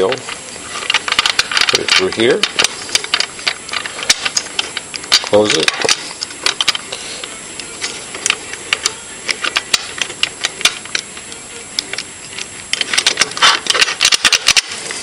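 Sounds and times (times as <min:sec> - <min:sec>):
padlock dials clicking: 0:00.0 - 0:14.8.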